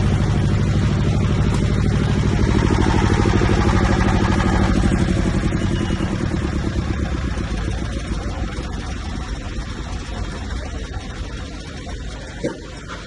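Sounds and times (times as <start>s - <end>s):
diesel generator engine running: 0.0s - 13.0s.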